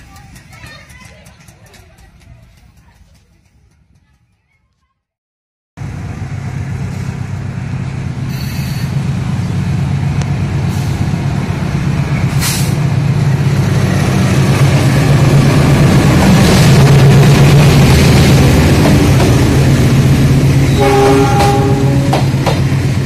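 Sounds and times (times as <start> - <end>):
diesel locomotive engine drone: 0.0 - 4.3, 5.8 - 23.0.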